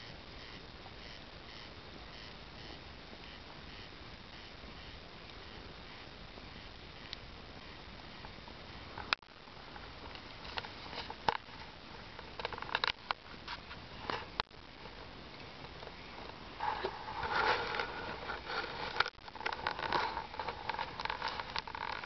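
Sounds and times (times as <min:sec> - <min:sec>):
bonfire crackling and popping: 0:00.1 - 0:22.0.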